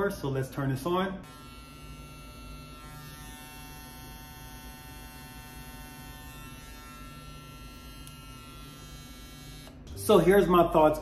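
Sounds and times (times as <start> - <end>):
hair clipper buzzing: 0.7 - 10.4.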